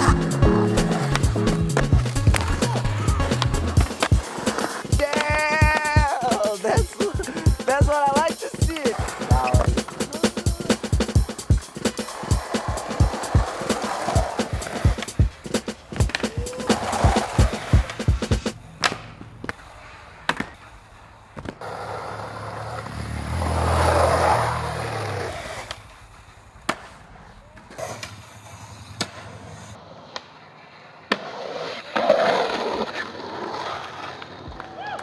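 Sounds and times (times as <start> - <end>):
skateboards popping and landing: 0.0 - 35.0
skateboards rolling: 0.0 - 35.0.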